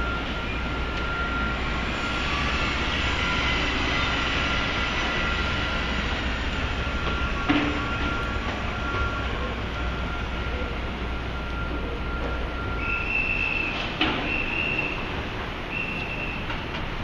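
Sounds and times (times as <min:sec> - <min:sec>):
high-pitched whine: 0:00.0 - 0:16.6
construction machinery: 0:00.0 - 0:17.0
traffic: 0:00.0 - 0:17.0.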